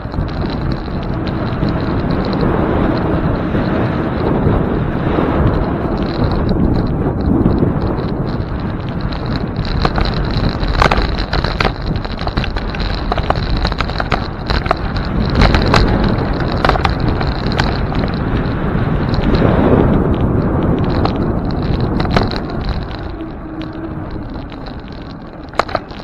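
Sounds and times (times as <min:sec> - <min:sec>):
bicycle road rumble: 0:00.0 - 0:26.0
sharp clicks and rattles: 0:00.0 - 0:26.0
wind on microphone: 0:00.0 - 0:26.0.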